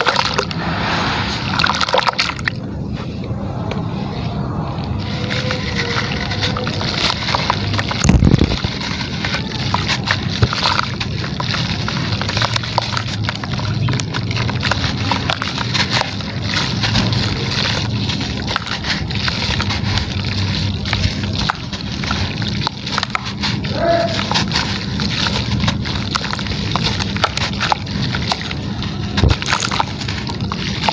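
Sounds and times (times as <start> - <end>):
gritty material crumbling: 0.0 - 2.6, 3.8 - 30.9
water sloshing: 0.0 - 30.9.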